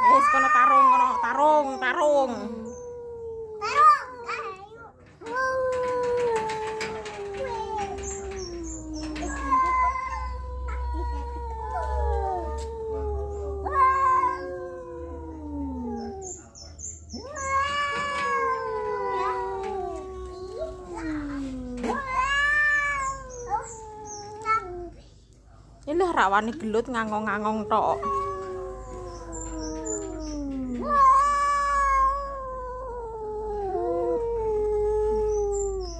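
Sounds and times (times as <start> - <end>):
cats yowling: 0.0 - 25.0, 26.8 - 35.9.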